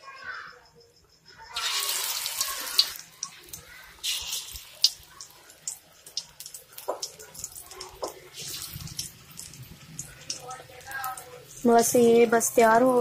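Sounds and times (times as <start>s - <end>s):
food deep-frying in hot oil: 1.5s - 13.0s
loud sizzle: 1.5s - 13.0s
oil crackling and popping: 1.6s - 13.0s.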